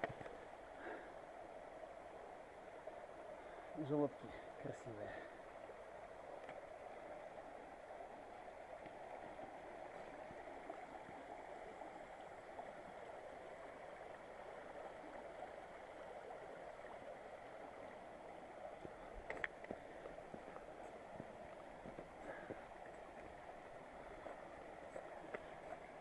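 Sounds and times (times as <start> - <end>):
river rushing over rocks: 0.1 - 26.0.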